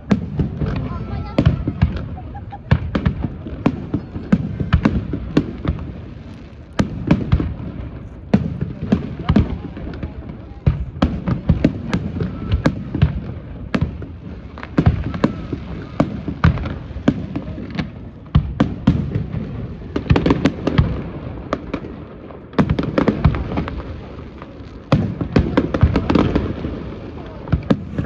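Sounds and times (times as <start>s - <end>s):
fireworks bangs and cracks: 0.0s - 28.0s.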